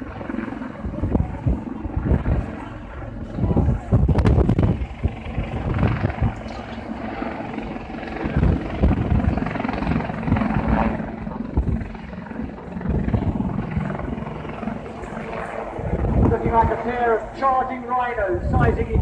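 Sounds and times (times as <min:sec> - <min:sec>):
helicopter rotor chop: 0:00.0 - 0:19.0
helicopter turbine noise: 0:00.0 - 0:19.0.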